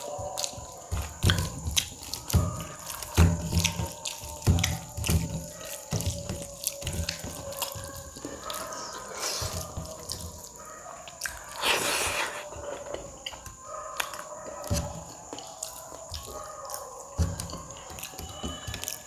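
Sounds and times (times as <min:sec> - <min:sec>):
person chewing wet food: 0:00.0 - 0:19.0.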